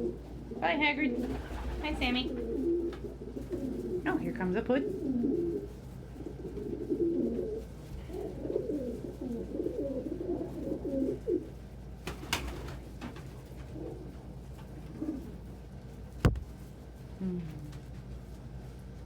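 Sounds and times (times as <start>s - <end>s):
pigeons cooing: 0.0s - 15.6s.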